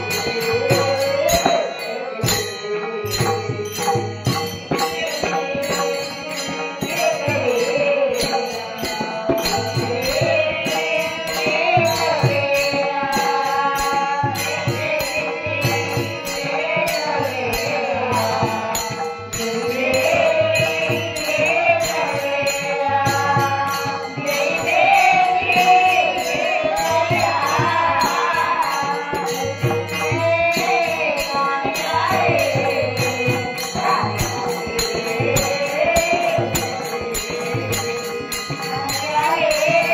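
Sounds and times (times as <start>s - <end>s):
group accompaniment: 0.0s - 39.9s
jingling percussion: 0.0s - 39.9s
woman singing: 0.0s - 39.9s.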